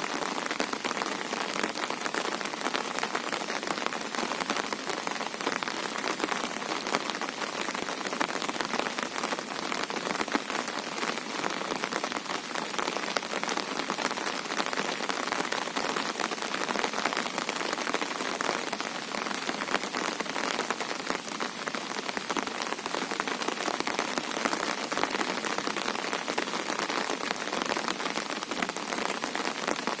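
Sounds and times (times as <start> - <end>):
rain falling on a river: 0.0 - 30.0.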